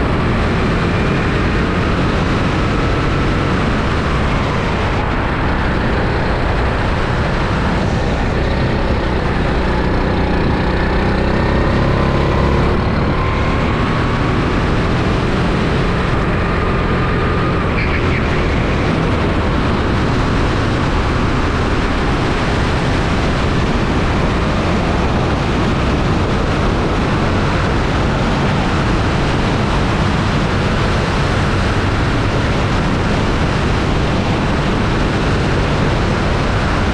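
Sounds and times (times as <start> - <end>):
go-kart engine running: 0.0 - 36.9
wind noise on microphone: 0.0 - 36.9.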